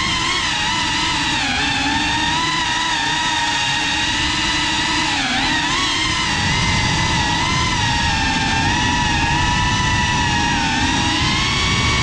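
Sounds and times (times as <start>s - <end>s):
drone motors whining: 0.0s - 12.0s
rushing wind: 0.0s - 12.0s.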